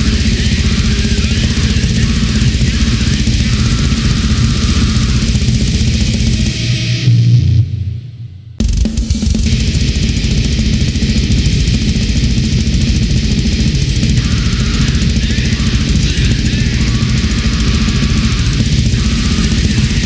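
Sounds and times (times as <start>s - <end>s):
rapid drumming: 0.0s - 7.1s, 8.6s - 20.0s
distorted guitar: 0.0s - 20.0s.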